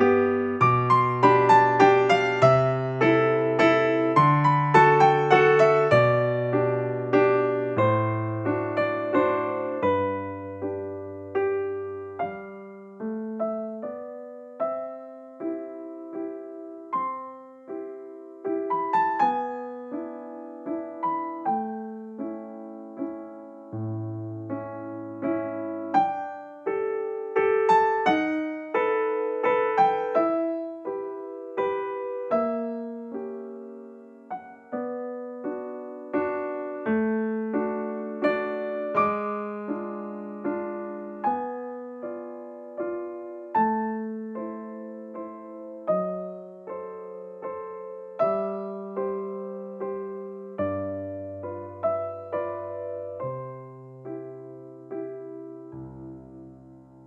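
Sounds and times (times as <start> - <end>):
slow gentle piano music: 0.0 - 57.0.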